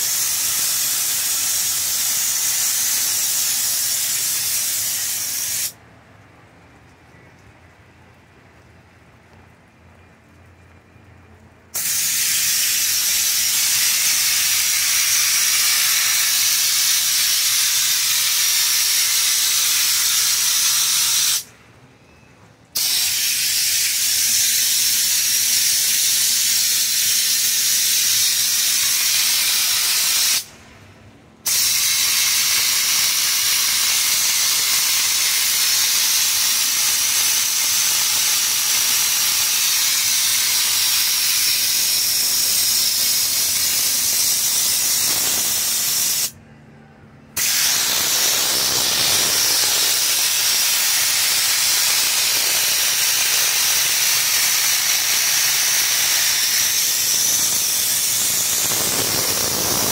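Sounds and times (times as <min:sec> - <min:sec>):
spray gun hissing: 0:00.0 - 0:05.8, 0:11.8 - 0:21.5, 0:22.8 - 0:30.5, 0:31.4 - 0:46.3, 0:47.4 - 0:59.9.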